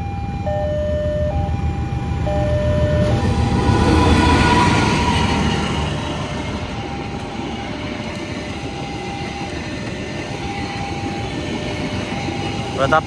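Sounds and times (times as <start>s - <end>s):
locomotive engine rumble: 0.3s - 13.0s
train wheels rolling on rails: 1.7s - 13.0s.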